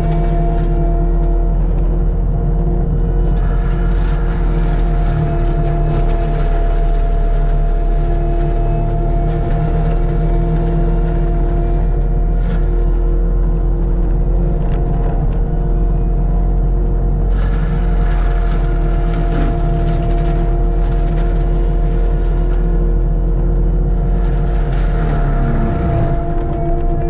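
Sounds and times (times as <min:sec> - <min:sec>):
machine engine humming: 0:00.0 - 0:27.0.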